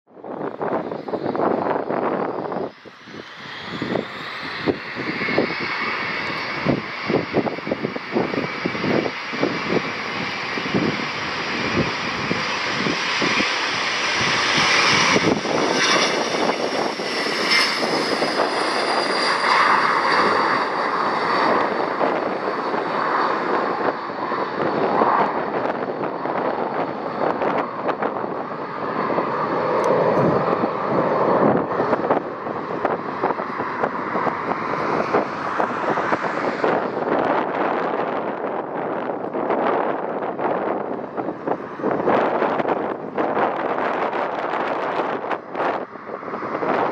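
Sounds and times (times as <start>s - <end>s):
jet engines spooling up: 0.2s - 46.9s.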